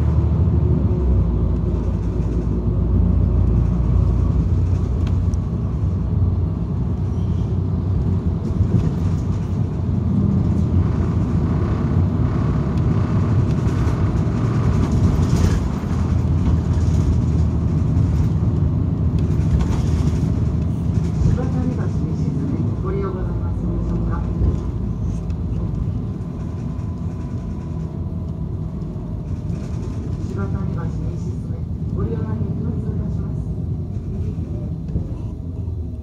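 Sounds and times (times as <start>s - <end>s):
bus engine and road rumble: 0.0s - 36.0s
rattling in bus cabin: 0.0s - 36.0s.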